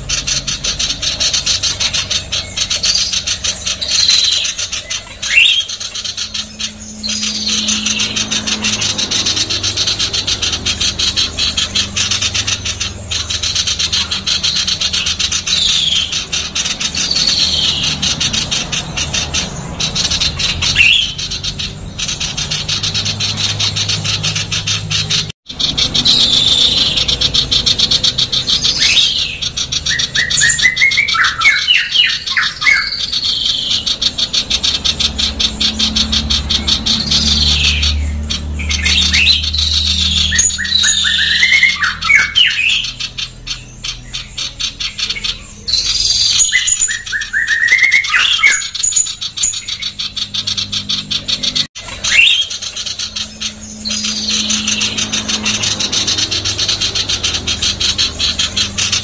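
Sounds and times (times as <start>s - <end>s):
bird harsh chatter: 0.0s - 59.0s
bird whistled phrases: 0.0s - 59.0s.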